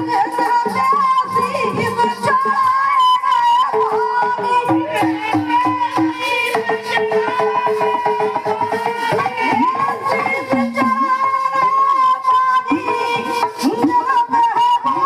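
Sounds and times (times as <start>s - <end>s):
folk devotional melody: 0.0s - 15.0s
steady percussion: 0.0s - 15.0s.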